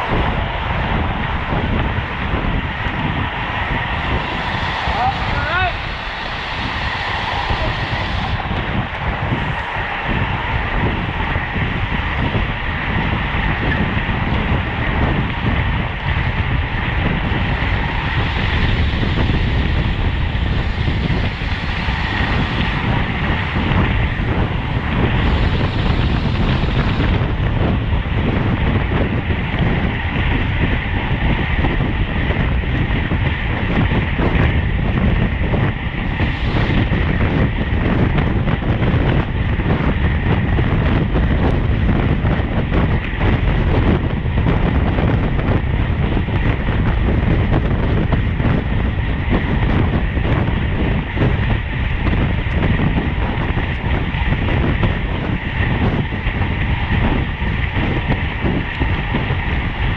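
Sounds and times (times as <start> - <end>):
tyres rumbling on road: 0.0 - 59.9
wind rushing over microphone: 0.0 - 59.9.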